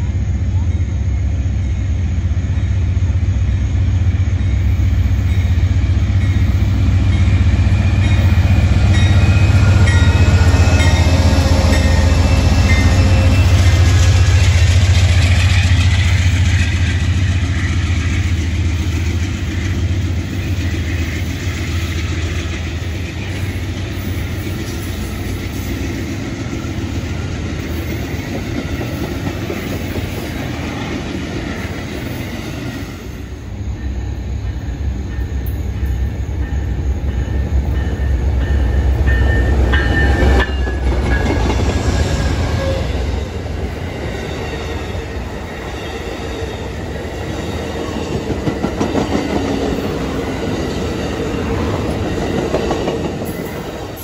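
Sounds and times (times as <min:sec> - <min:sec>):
diesel locomotive pulling away: 0:00.0 - 0:54.0
train wheel and rail rumble: 0:00.0 - 0:54.0.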